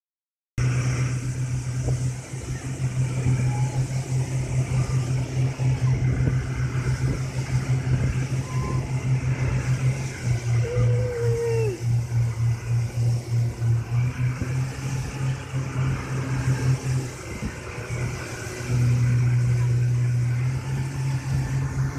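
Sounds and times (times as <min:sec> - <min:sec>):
boat motor droning: 0:00.6 - 0:21.9.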